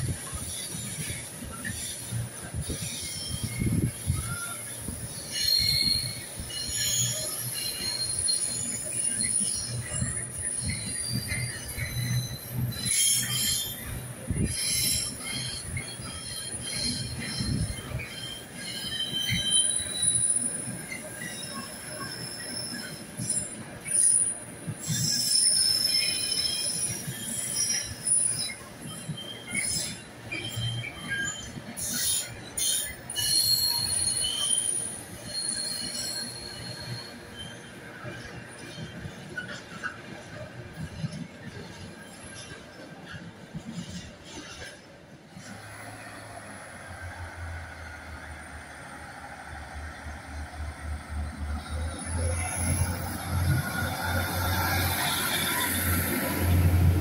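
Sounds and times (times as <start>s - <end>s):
train wheels squealing: 0.0s - 57.0s
wheels rumbling on rail: 0.0s - 57.0s.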